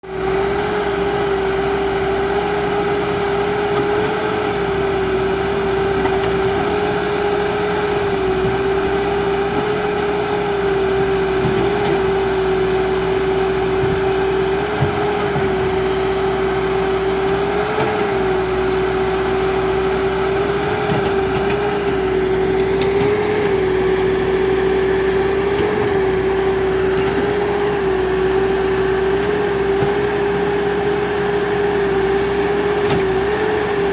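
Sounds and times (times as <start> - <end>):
diesel engine running: 0.0 - 33.9
engine whine: 0.0 - 33.9.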